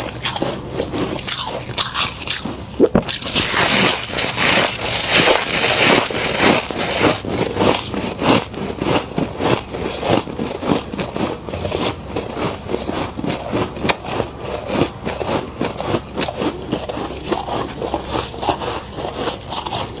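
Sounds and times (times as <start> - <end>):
frost being chewed: 0.0 - 20.0.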